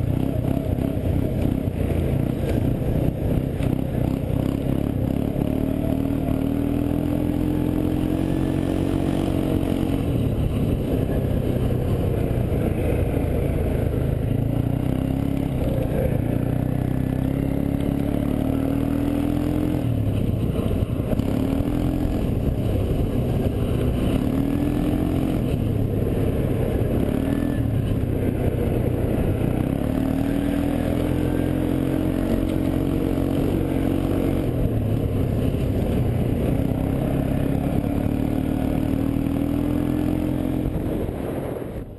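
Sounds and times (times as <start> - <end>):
atv engine revving: 0.0 - 41.6.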